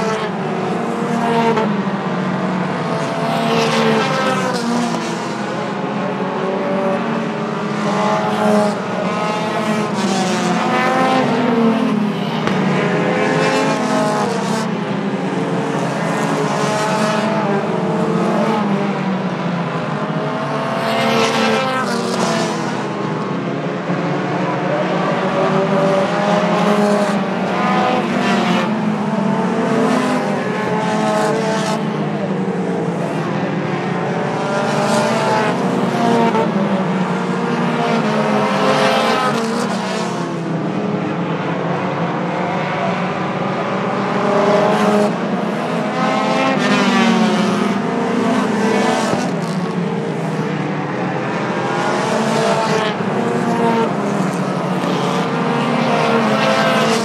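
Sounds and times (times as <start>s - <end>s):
race car engines: 0.0s - 57.0s.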